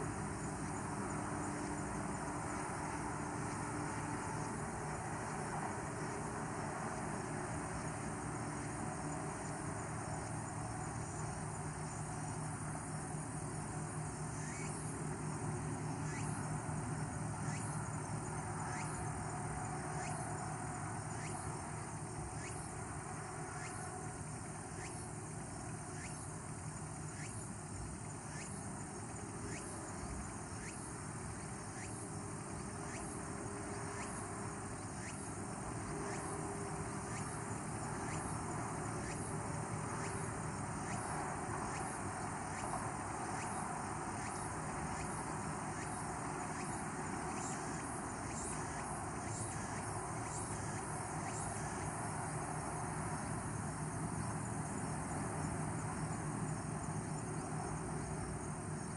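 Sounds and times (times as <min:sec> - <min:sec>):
background hiss: 0:00.0 - 0:58.9
crickets chirping: 0:00.0 - 0:58.9
insects trilling: 0:00.0 - 0:58.9.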